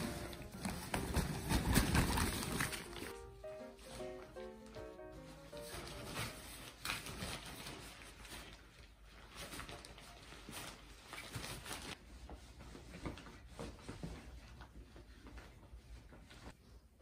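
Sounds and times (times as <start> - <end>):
puppies scuffling on carpet: 0.0 - 16.8
fabric tunnel rustling: 0.0 - 17.0.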